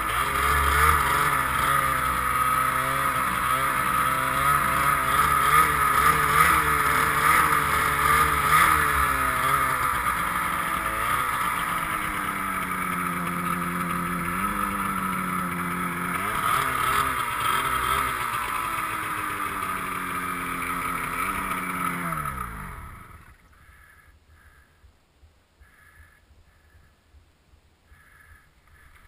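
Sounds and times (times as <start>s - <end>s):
snowmobile engine running: 0.0s - 23.9s.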